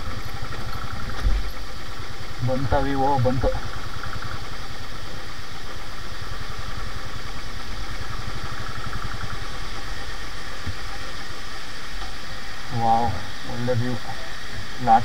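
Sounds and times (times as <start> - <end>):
motorcycle engine running at low speed: 0.0 - 15.0.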